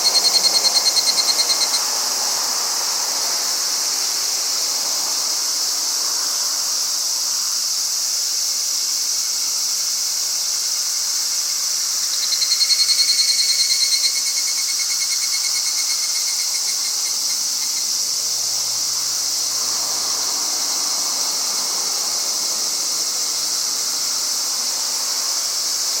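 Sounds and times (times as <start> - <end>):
cicada chorus: 0.0 - 26.0
cicada pulsing trill: 0.0 - 26.0.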